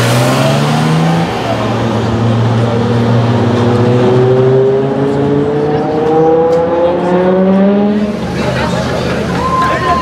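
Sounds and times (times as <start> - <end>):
car engine revving up: 0.0 - 8.5.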